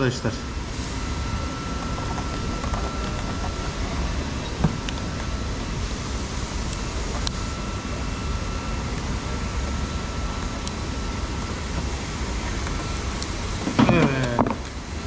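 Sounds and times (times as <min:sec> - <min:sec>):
workshop mechanical hum: 0:00.0 - 0:15.0.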